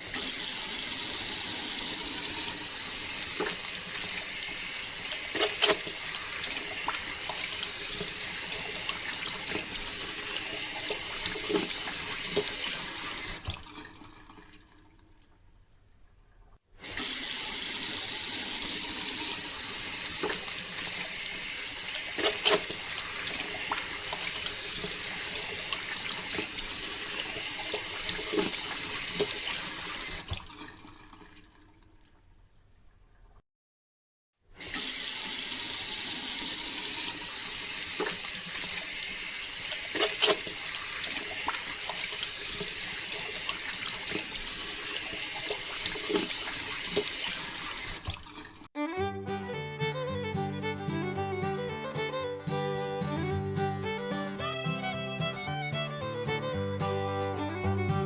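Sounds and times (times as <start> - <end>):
water pouring and splashing: 0.0 - 33.4, 34.6 - 48.8.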